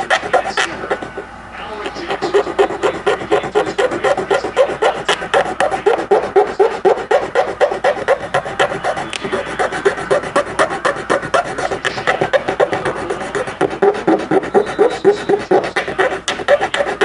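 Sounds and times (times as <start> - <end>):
hand file rasping plastic: 0.0 - 1.2, 1.9 - 17.0.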